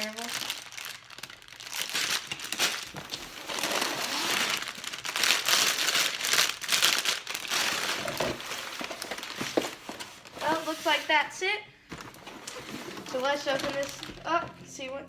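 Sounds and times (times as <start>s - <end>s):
plastic bags crinkling: 0.0s - 14.6s.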